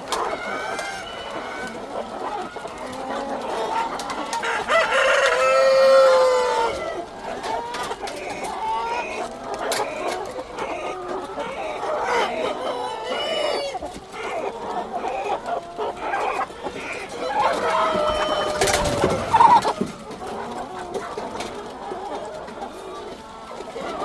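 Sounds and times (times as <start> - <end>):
flock of chickens clucking: 0.0 - 24.0.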